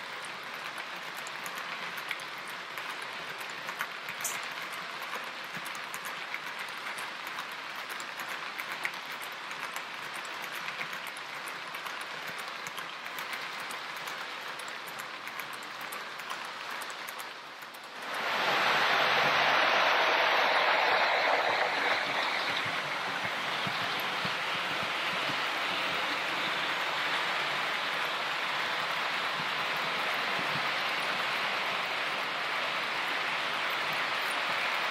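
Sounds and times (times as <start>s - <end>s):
wheels clicking over rail joints: 0.0s - 31.3s
model train rolling on track: 0.0s - 34.9s.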